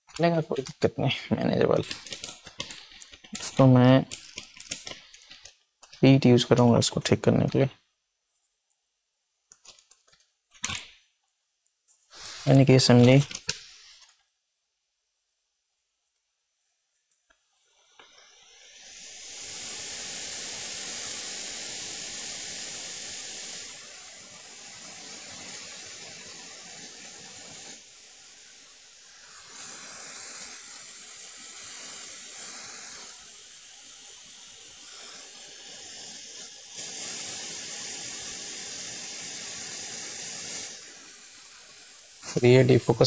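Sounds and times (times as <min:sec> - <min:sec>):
hot air blower hissing: 0:00.0 - 0:07.6, 0:12.1 - 0:14.0, 0:17.6 - 0:43.0.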